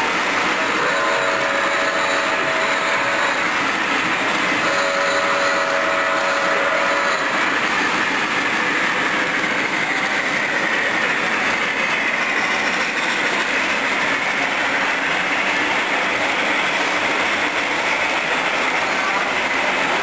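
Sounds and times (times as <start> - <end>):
model trains rolling on track: 0.0 - 20.0.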